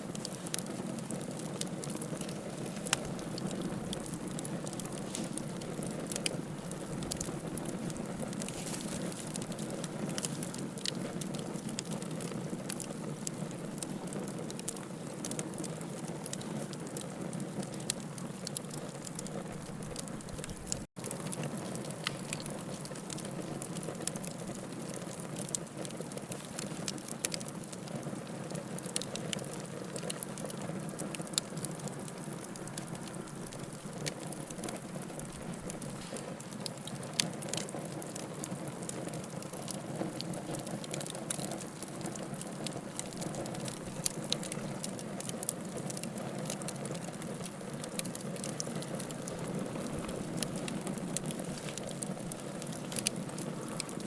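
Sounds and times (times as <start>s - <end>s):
wood fire crackling: 0.0s - 54.0s
loud fire pops: 0.1s - 54.0s.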